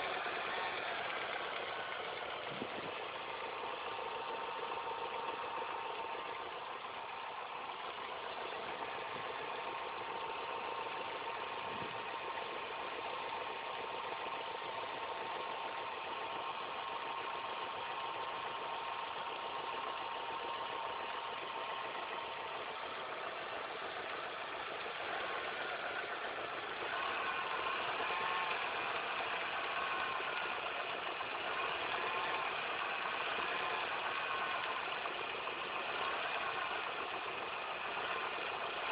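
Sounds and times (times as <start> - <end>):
car engine idling: 0.0 - 38.9
steady whining tone: 0.0 - 38.9.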